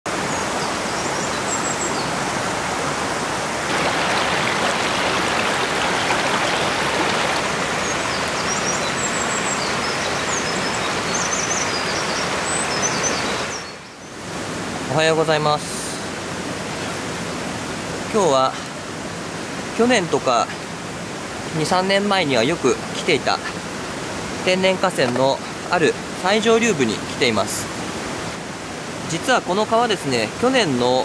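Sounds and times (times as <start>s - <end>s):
stream rushing over rocks: 0.1s - 31.0s.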